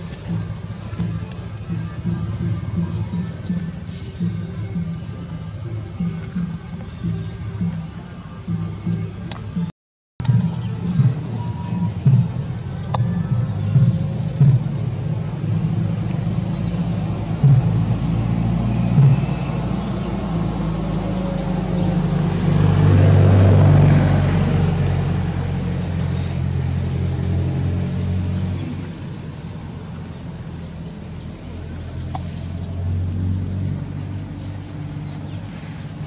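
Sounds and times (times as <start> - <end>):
passing traffic engine drone: 0.0 - 36.0.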